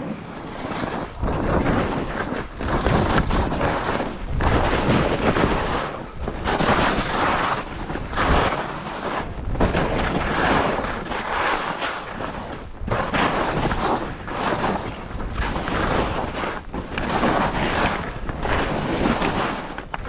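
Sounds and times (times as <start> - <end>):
skis scraping over hard snow: 0.0 - 20.0
wind buffeting microphone: 0.0 - 20.0.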